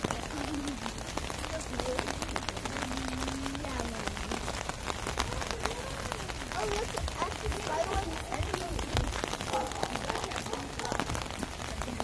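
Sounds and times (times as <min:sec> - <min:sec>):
raindrops striking close: 0:00.0 - 0:12.0
steady rain falling: 0:00.0 - 0:12.0.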